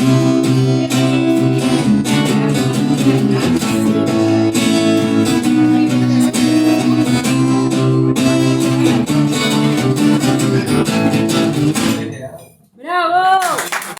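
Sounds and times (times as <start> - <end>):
instrumental guitar music: 0.0 - 12.6.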